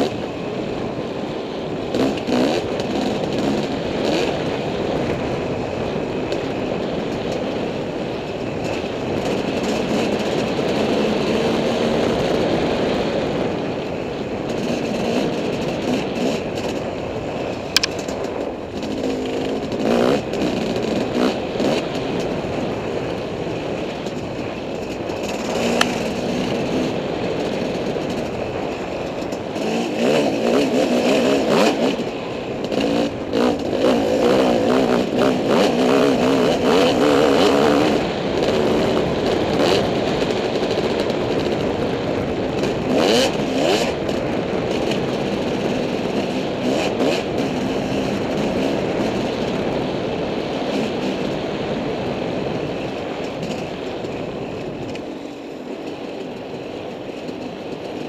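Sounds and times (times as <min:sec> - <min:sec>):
dirt bike engine revving: 0:00.0 - 0:56.4.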